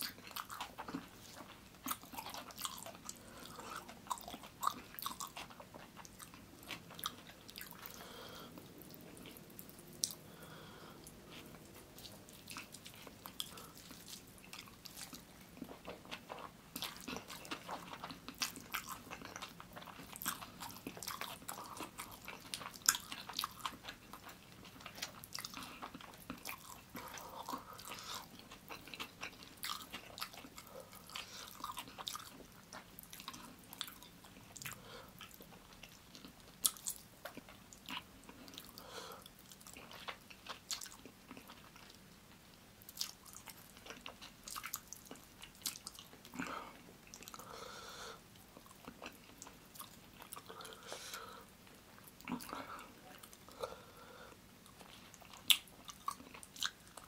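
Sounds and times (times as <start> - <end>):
wet chewing mouth sounds: 0.0 - 42.1, 42.8 - 57.0.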